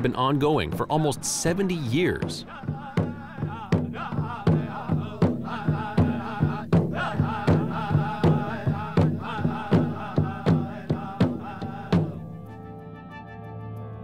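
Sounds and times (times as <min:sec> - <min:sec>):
steady drum beat: 0:00.0 - 0:12.2
chanted singing: 0:00.6 - 0:12.6.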